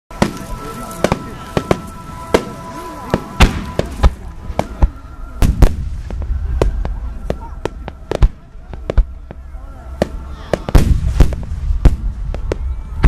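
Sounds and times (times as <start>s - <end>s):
fireworks bursting: 0.1s - 13.0s
low rumble: 0.1s - 13.0s
music playing: 0.1s - 13.0s.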